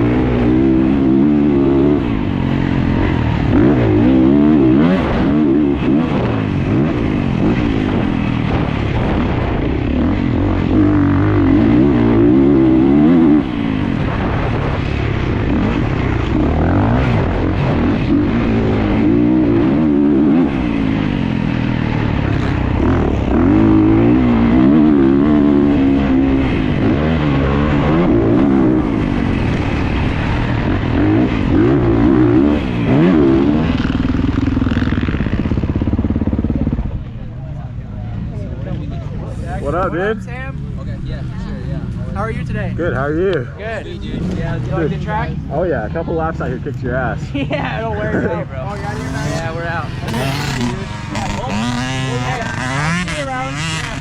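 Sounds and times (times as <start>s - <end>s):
dirt bike engine revving: 0.0s - 37.1s, 42.6s - 54.0s.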